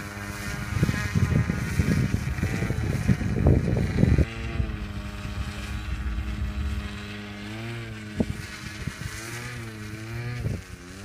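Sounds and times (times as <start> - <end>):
model plane engine running: 0.0 - 11.0.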